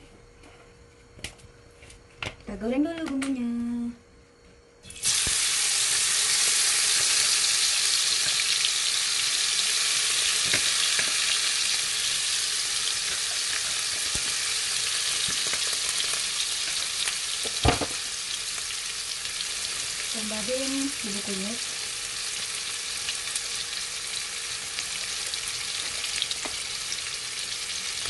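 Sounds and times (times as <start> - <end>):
paste sizzling in hot oil: 4.9 - 28.0.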